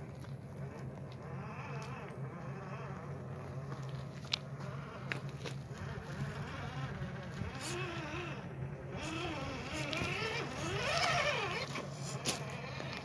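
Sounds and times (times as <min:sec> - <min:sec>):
toy car electric motor whining: 0:00.6 - 0:13.0.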